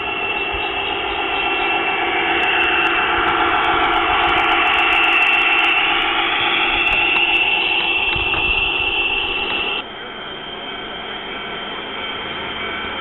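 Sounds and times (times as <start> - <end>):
model train humming and whining: 0.0 - 13.0.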